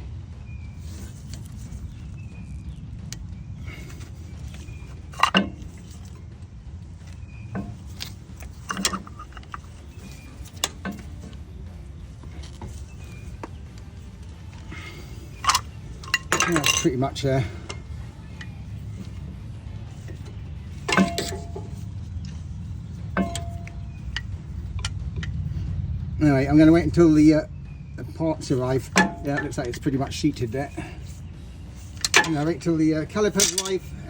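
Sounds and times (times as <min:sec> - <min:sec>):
steady low rumble: 0:00.0 - 0:34.0
metallic clinks and knocks: 0:00.8 - 0:06.4, 0:07.0 - 0:25.6, 0:28.4 - 0:34.0.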